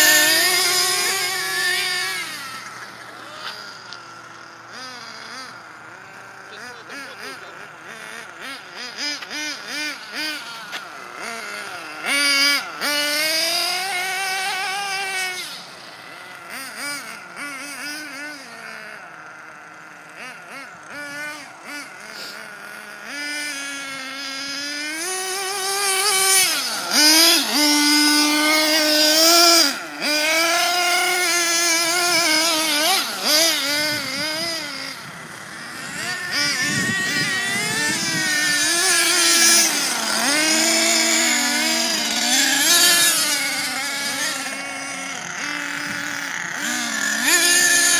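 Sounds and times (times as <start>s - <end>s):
small nitro engines revving: 0.0s - 47.9s.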